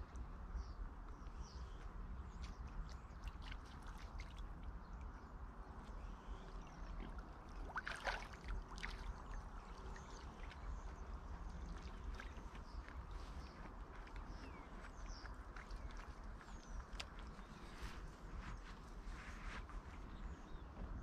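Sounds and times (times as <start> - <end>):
wind rumble on microphone: 0.0 - 21.0
water splashing and lapping: 1.8 - 20.5.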